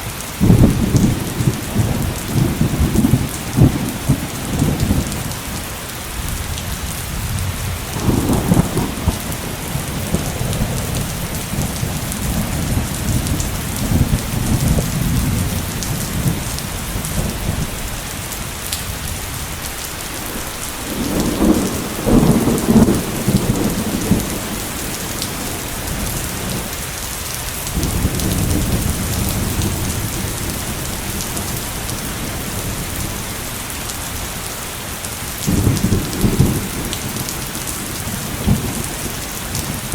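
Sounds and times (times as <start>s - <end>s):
heavy rain pouring: 0.0s - 39.9s
rolling thunder: 0.4s - 34.5s, 35.2s - 39.9s.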